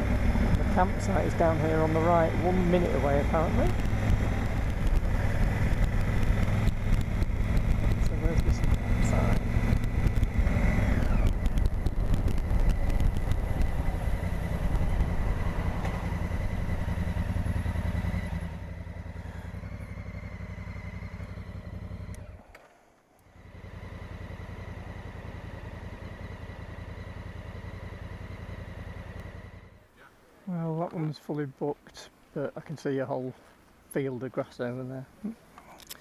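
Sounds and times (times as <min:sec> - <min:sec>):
motorcycle engine running: 0:00.0 - 0:22.5, 0:23.2 - 0:29.8.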